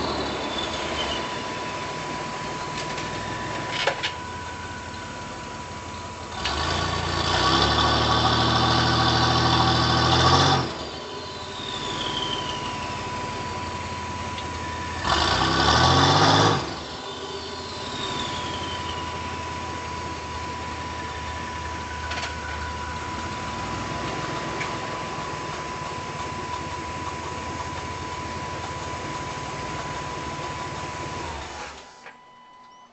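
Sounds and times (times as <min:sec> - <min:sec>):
turbo whistle: 0:00.0 - 0:07.6, 0:08.5 - 0:32.9
car engine idling and revving: 0:00.0 - 0:32.2.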